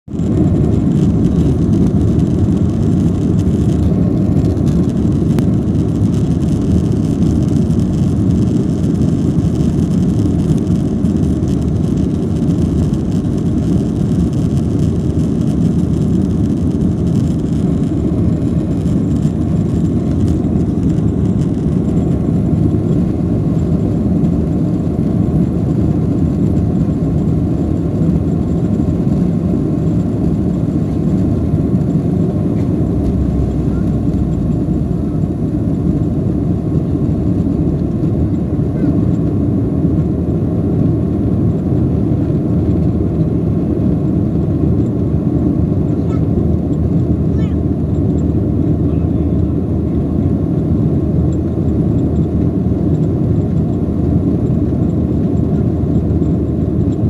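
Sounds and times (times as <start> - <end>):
jet engines rumbling: 0.0 - 57.0
airplane cabin noise: 0.1 - 57.0.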